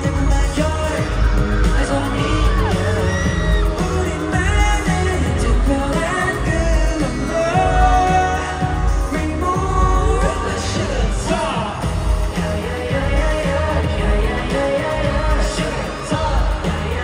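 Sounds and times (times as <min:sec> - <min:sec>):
male group singing pop song: 0:00.0 - 0:17.0
pop backing track with bass beat: 0:00.0 - 0:17.0.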